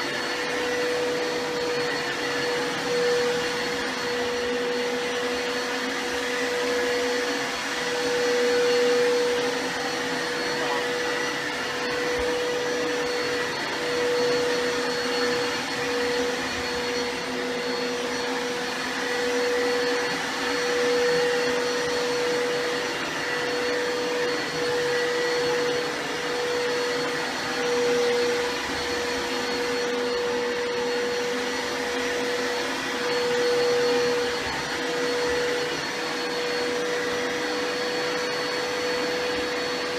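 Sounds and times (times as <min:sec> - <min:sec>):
vacuum cleaner motor: 0:00.0 - 0:39.9.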